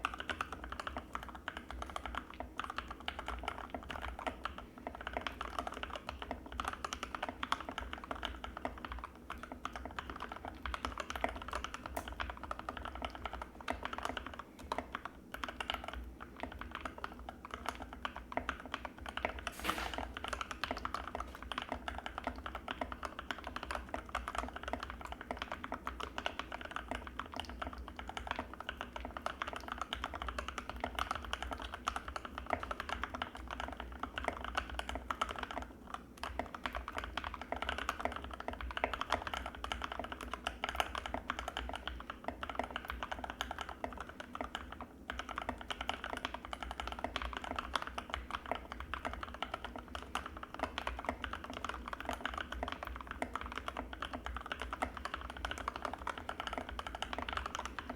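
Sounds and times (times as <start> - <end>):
mechanical keyboard typing: 0.0 - 35.6, 36.2 - 57.9.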